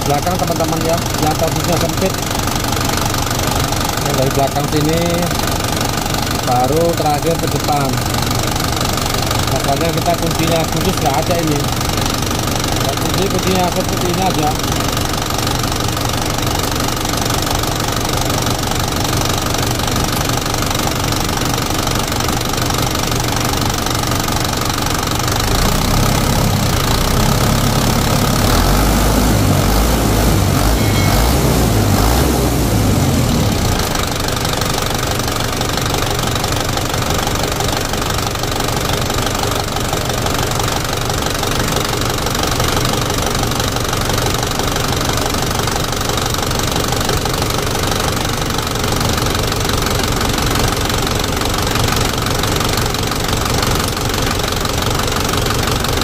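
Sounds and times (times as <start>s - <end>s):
diesel engine idling with clatter: 0.0s - 56.0s.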